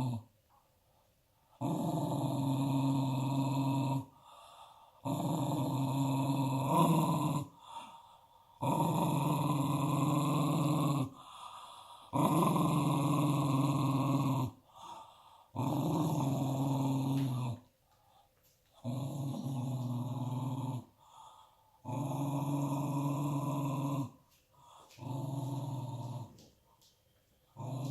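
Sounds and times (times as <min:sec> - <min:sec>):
dog growling: 0:01.6 - 0:04.4, 0:05.0 - 0:17.7, 0:18.8 - 0:26.6, 0:27.6 - 0:27.9.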